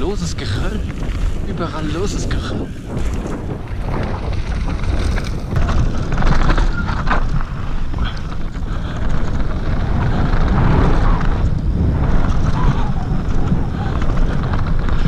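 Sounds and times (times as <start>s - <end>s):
bike clicks and rattles: 0.0s - 15.0s
tyres crunching over scree: 0.0s - 15.0s
wind buffeting microphone: 0.0s - 15.0s.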